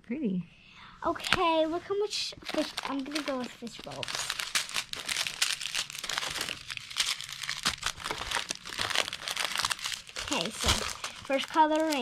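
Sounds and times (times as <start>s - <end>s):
plastic packaging crinkling: 1.2s - 12.0s.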